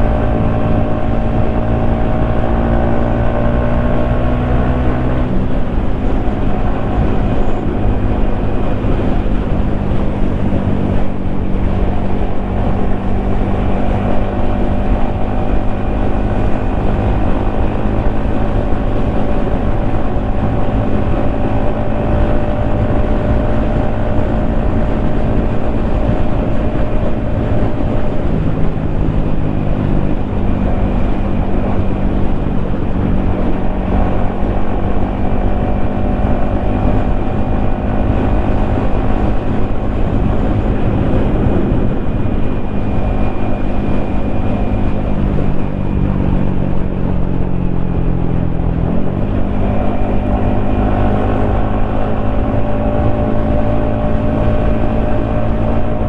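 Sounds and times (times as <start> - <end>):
motorcycle engine running: 0.0 - 56.0
wind noise: 0.0 - 56.0.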